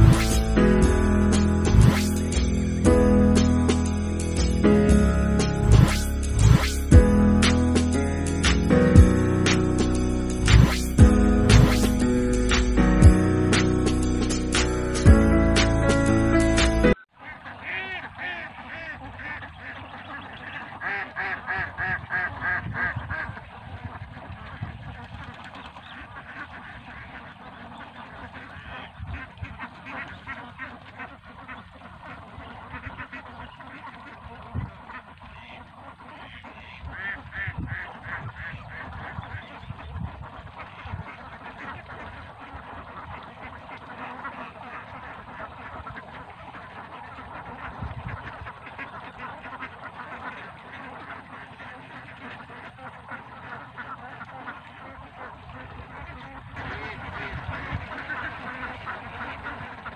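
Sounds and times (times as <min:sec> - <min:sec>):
flock of ducks quacking: 0:00.0 - 0:59.9.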